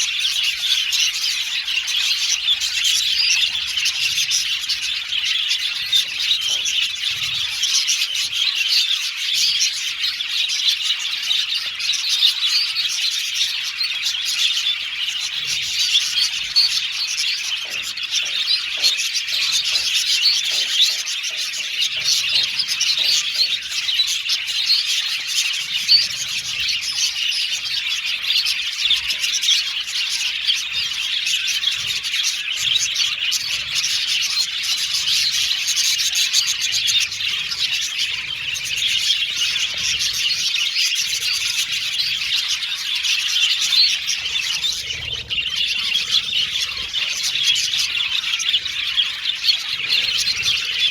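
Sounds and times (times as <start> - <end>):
budgerigars chattering and chirping: 0.0 - 50.9.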